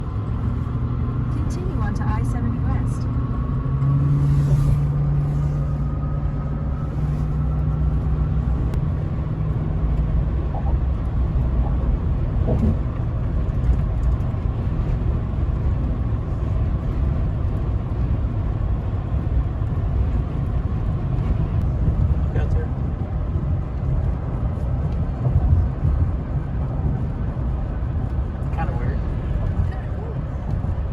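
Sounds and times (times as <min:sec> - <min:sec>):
engine drone: 0:00.0 - 0:30.9
road noise rumble: 0:00.0 - 0:30.9.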